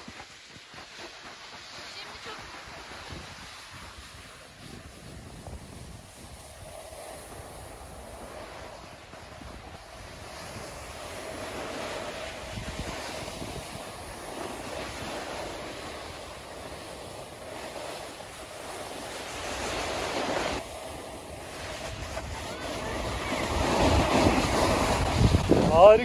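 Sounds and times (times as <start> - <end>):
snowboard scraping snow: 0.0 - 26.0
wind over microphone: 0.0 - 26.0.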